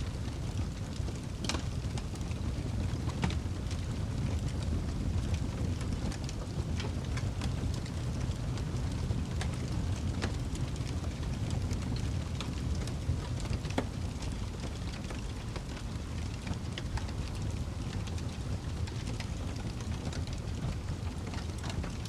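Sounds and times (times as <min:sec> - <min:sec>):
crackles and pops of burning wood: 0:00.0 - 0:22.0
wood fire burning: 0:00.0 - 0:22.0.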